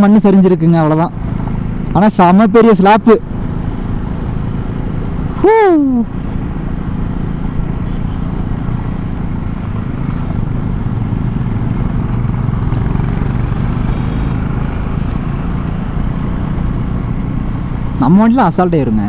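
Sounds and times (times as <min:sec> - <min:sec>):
road noise: 0:00.0 - 0:19.0
motorcycle engine running: 0:00.8 - 0:19.0.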